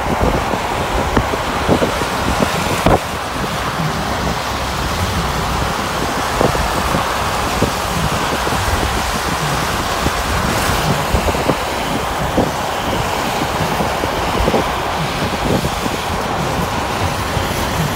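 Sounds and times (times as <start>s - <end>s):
road and wind noise inside car: 0.0s - 17.9s.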